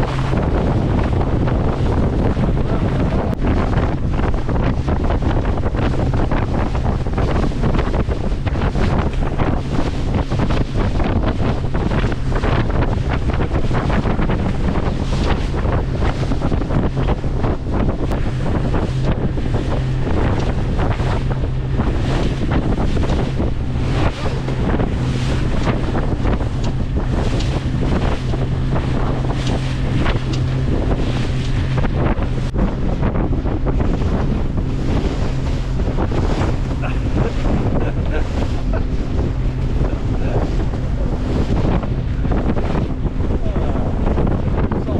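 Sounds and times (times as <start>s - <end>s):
boat engine droning: 0.0s - 44.9s
wind buffeting microphone: 0.0s - 44.9s.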